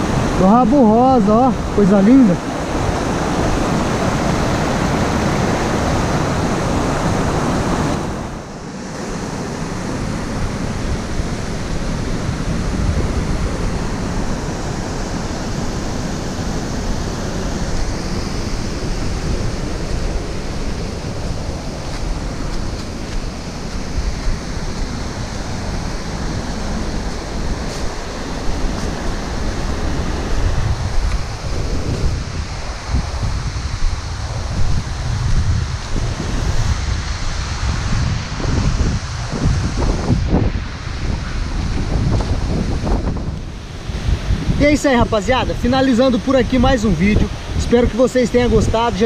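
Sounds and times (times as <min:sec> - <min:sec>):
water rushing over rocks: 0:00.0 - 0:49.0.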